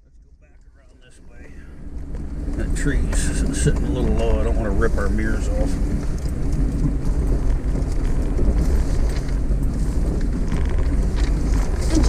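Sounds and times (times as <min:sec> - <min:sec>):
vehicle engine running low: 0:00.0 - 0:12.0.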